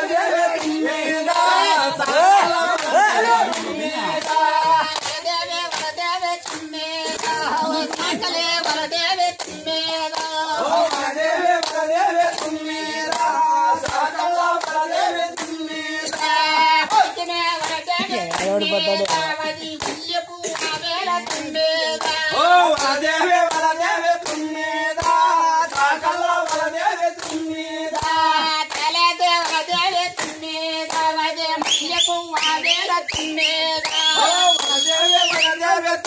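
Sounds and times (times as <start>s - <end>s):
group singing: 0.0s - 36.0s
rhythmic hand clapping: 0.0s - 36.0s.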